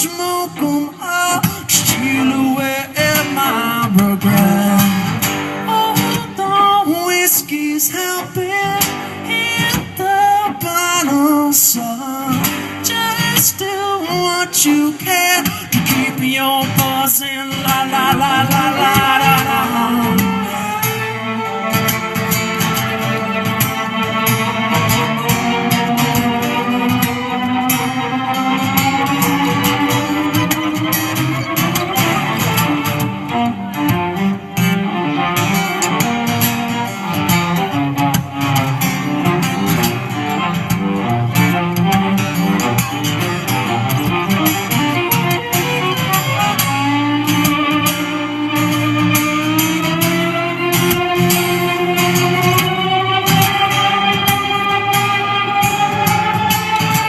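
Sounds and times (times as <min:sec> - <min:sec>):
gliding lead guitar notes: 0:00.0 - 0:57.0
strummed guitar: 0:00.0 - 0:57.0.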